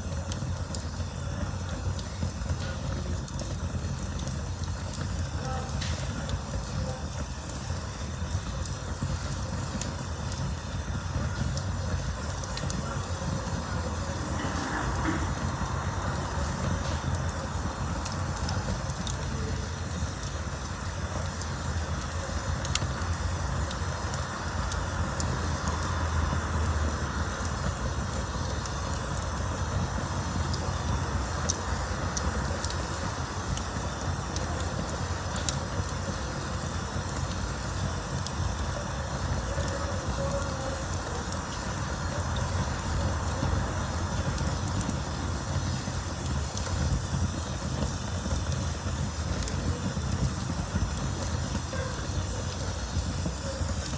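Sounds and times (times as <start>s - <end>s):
campfire flames rushing: 0.0s - 53.9s
fire crackling and popping: 0.0s - 53.9s.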